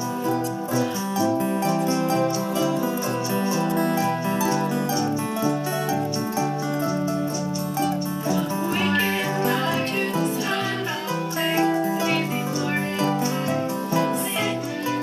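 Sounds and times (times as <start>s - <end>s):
acoustic guitars strumming: 0.0s - 15.0s.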